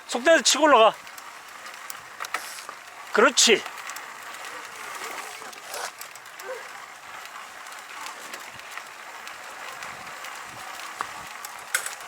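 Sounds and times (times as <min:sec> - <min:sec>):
bike tyres crackling on gravel: 0:00.0 - 0:12.0
small clicks and rattles: 0:00.1 - 0:12.0.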